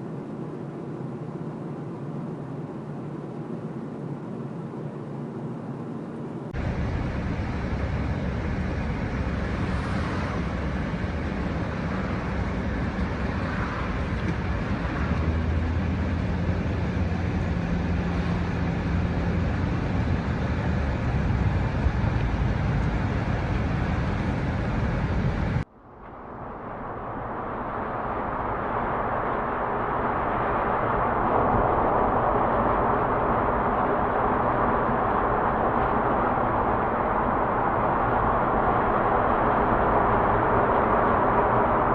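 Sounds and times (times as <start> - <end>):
car road and tyre noise: 0.0 - 41.9.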